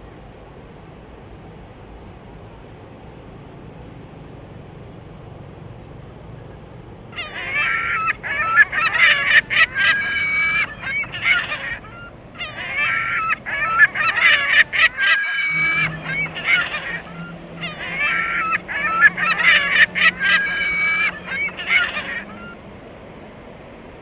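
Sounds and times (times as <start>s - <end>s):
low background noise: 0.0s - 24.0s
loud bird calls: 4.2s - 23.9s.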